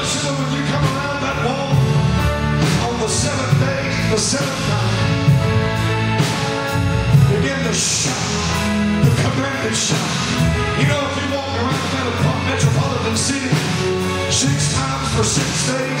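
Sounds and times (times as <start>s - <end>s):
drum kit: 0.0s - 16.0s
sustained chords and bass: 0.0s - 16.0s.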